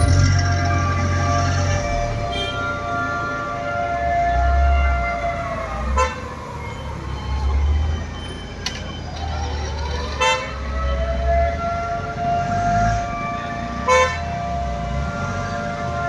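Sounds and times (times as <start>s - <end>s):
civil defence siren wailing: 0.0s - 16.0s.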